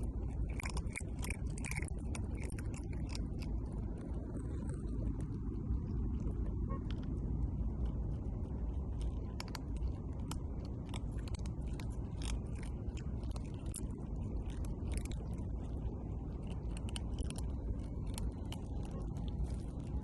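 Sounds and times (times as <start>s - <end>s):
cat chewing and crunching food: 0.0s - 20.0s
steady low rumble: 0.0s - 20.0s.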